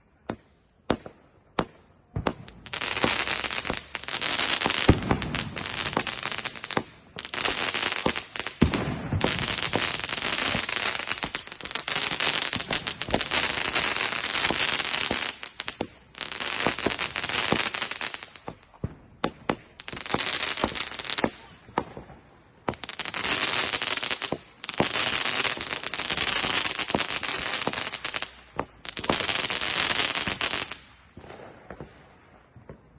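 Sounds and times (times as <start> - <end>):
firework bangs: 0.3 - 32.9
fireworks crackling: 0.9 - 32.8.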